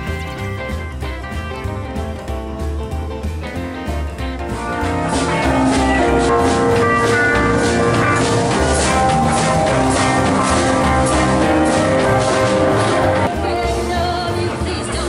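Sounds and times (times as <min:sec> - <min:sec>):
drum kit steady beat: 0:00.0 - 0:15.0
electric guitars: 0:00.0 - 0:15.0.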